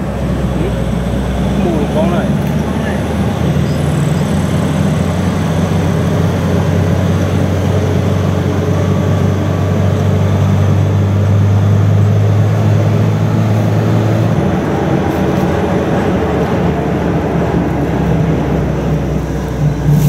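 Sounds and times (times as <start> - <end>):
road noise: 0.0 - 20.0
truck engine droning: 0.0 - 20.0
wind: 0.0 - 20.0.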